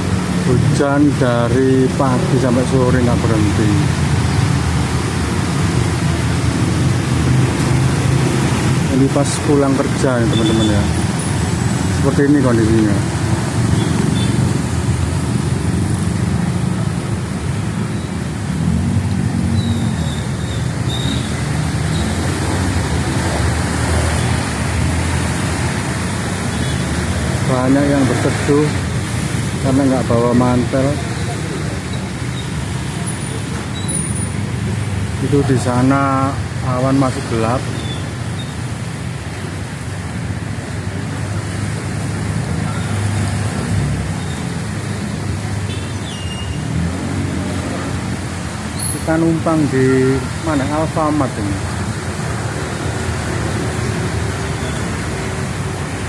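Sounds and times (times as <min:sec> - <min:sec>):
vehicle engines running: 0:00.0 - 0:56.0
rain hissing on wet road: 0:10.2 - 0:56.0.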